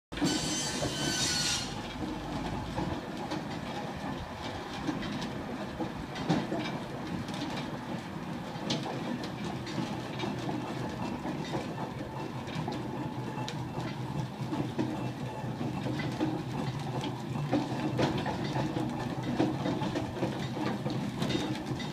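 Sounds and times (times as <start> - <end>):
iron wheels clanking on road: 0.1 - 21.9.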